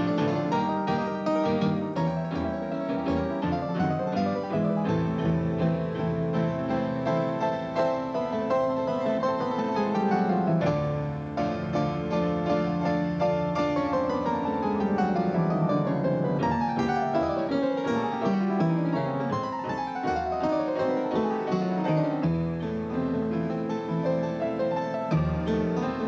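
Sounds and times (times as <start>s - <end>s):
instrumental music with fast runs: 0.0s - 26.0s.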